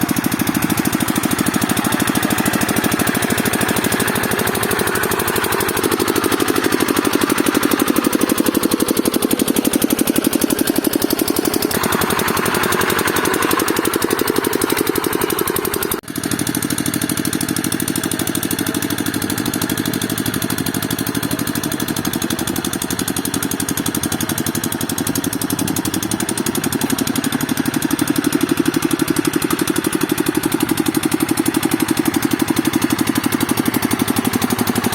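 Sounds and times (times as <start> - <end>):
hand tractor engine running: 0.0 - 34.9.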